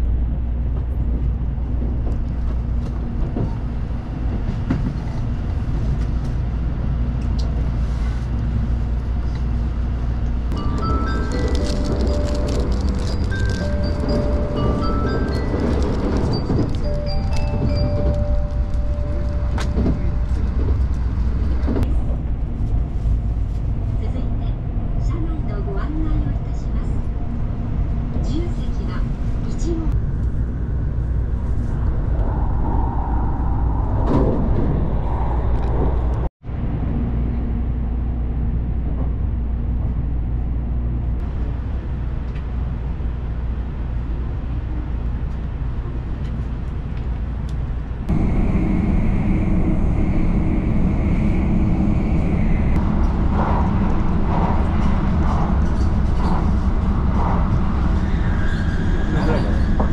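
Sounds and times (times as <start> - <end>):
train cabin rumble and hiss: 0.0 - 27.2, 38.2 - 59.9.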